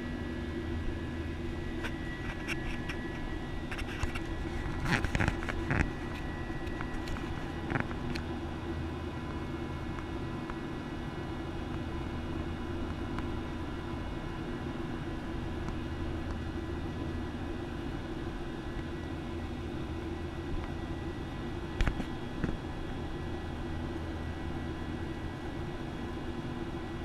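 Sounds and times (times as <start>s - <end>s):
jet engine drone: 0.0s - 27.0s.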